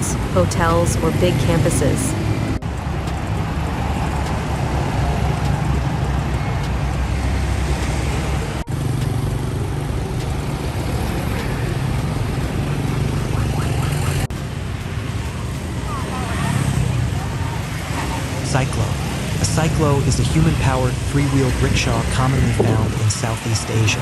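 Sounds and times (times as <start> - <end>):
traffic noise: 0.0 - 24.0
vehicle engine rumble: 0.0 - 24.0.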